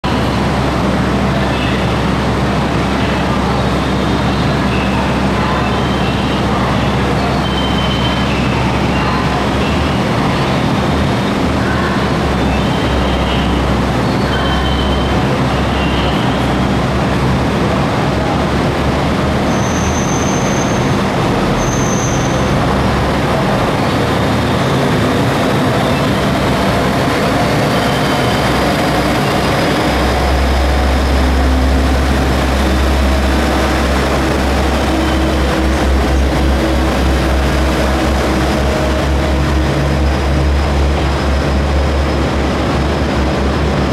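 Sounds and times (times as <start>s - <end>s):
diesel train engine: 0.0s - 43.9s
train cars moving past: 0.0s - 43.9s.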